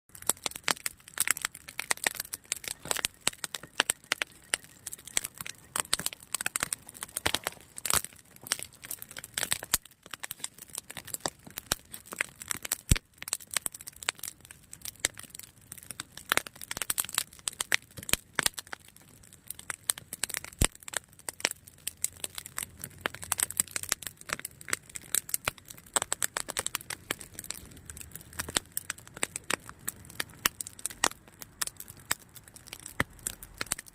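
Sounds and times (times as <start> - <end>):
campfire crackling and popping: 0.1 - 33.9.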